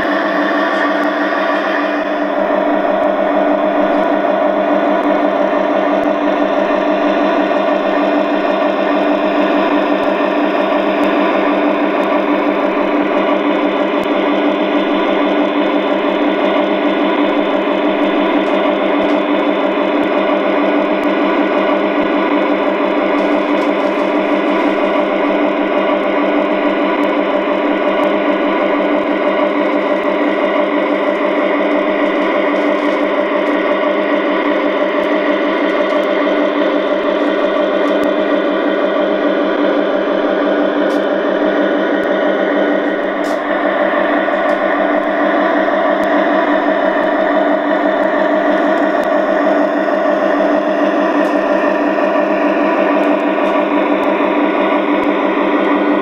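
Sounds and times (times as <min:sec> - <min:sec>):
model diesel engine sound: 0:00.0 - 0:56.0.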